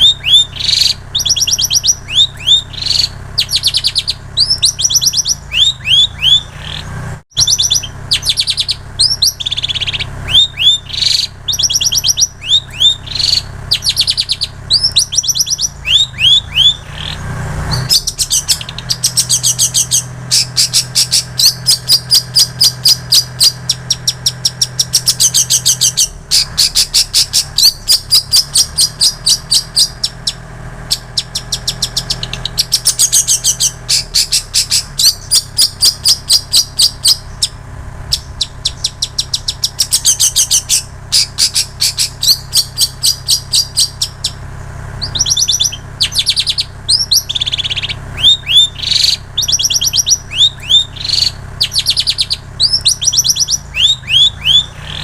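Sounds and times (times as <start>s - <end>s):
bird singing chattering notes: 0.0s - 55.0s.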